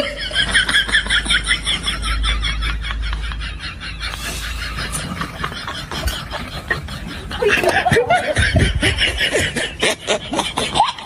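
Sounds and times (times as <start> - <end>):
high-pitched rapid laughter: 0.0 - 11.0.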